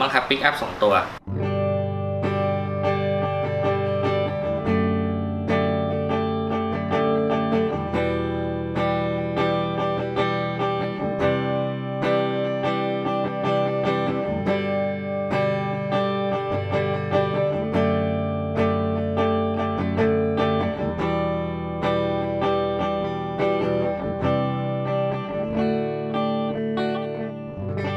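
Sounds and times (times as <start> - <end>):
electric guitar chords and picked notes: 1.2 - 27.9.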